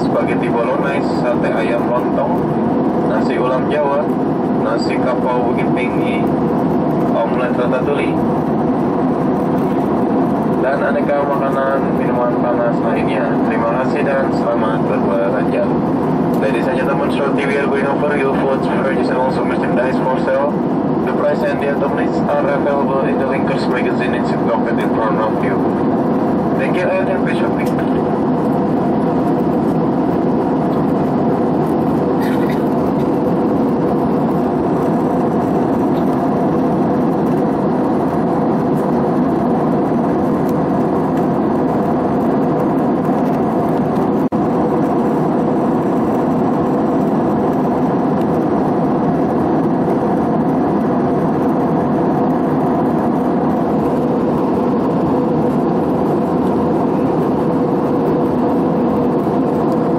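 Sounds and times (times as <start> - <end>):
constant hum: 0.0 - 59.9
jet airliner cabin drone: 0.0 - 59.9.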